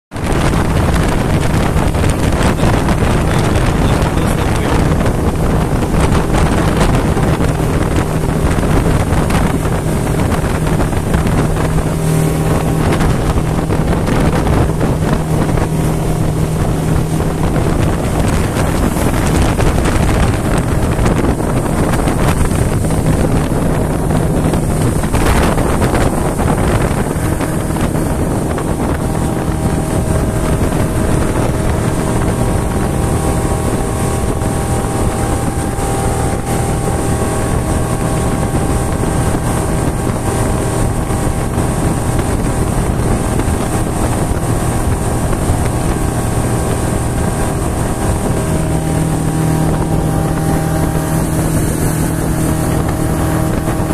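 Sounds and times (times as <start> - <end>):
motorboat engine drone: 0.1 - 53.9.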